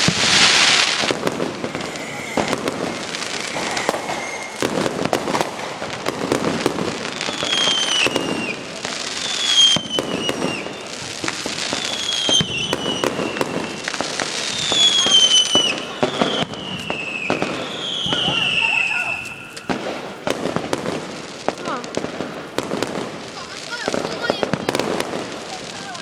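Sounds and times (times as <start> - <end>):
falling firework whistles: 0.0 - 21.1
fireworks crackling and banging: 0.0 - 26.0.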